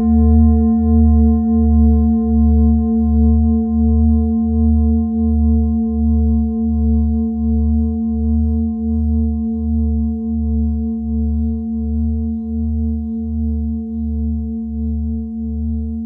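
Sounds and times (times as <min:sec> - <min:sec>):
bell ringing with deep hum: 0:00.0 - 0:16.0.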